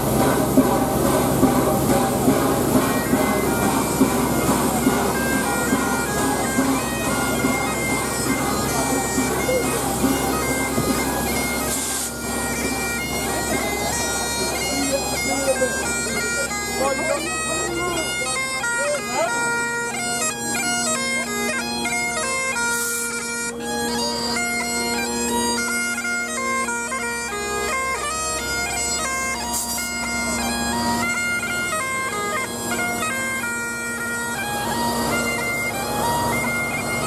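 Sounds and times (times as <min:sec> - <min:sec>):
bagpipes playing: 0:00.0 - 0:37.0.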